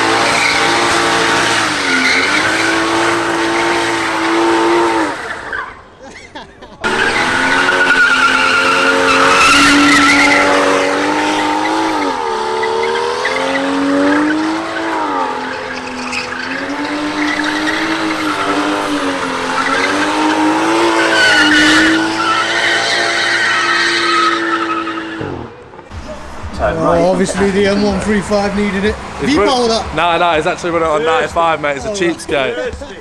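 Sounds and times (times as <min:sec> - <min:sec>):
car tyres squealing: 0:00.0 - 0:33.0.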